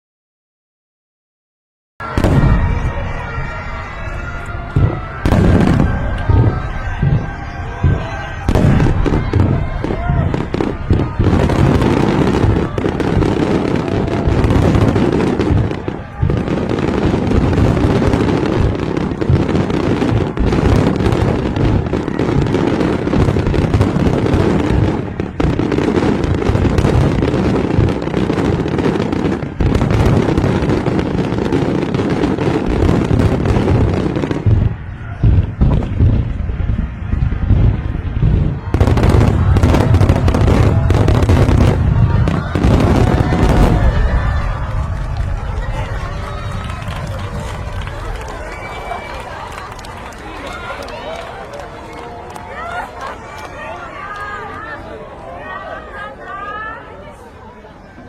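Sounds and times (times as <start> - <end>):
fireworks booming and crackling: 2.0 - 54.5.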